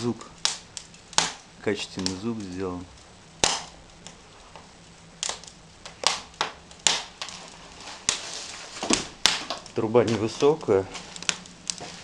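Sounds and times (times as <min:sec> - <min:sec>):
burning firewood popping: 0:00.0 - 0:12.0
wood fire crackling: 0:00.0 - 0:12.0.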